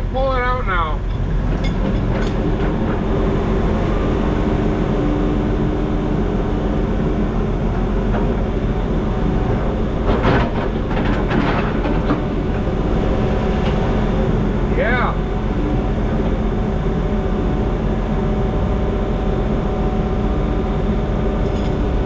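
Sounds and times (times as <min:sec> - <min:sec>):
excavator engine running: 0:00.0 - 0:22.0
hydraulic whine: 0:01.0 - 0:22.0.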